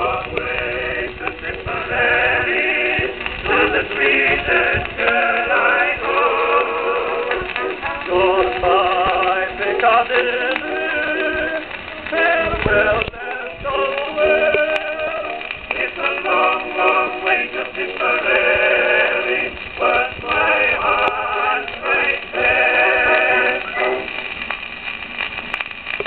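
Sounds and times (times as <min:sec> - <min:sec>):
man singing with chorus: 0:00.0 - 0:23.8
record surface noise: 0:00.0 - 0:26.0.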